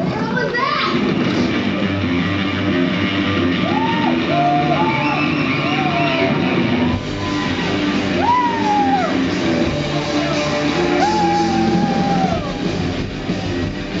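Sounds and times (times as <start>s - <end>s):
rock band playing loudly: 1.0s - 14.0s.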